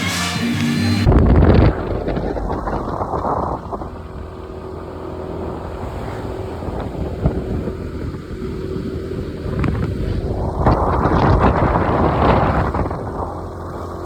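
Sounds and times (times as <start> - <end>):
motor scooter engine rumble: 0.0 - 14.0
wind buffeting microphone: 1.0 - 14.0.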